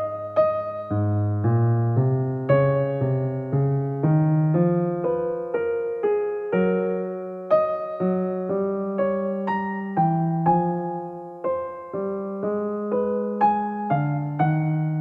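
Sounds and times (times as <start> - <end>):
electric piano slow melody: 0.0 - 15.0.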